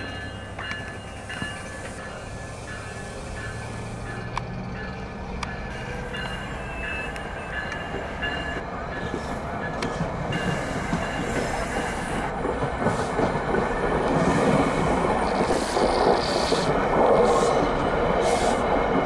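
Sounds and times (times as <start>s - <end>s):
train wheels rumbling over rails: 0.0s - 19.0s.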